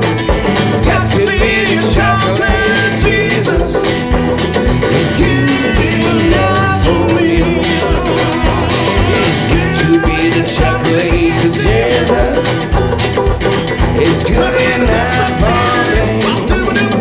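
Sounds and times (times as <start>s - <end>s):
banjo playing: 0.0s - 17.0s
foot drum thumping: 0.0s - 17.0s.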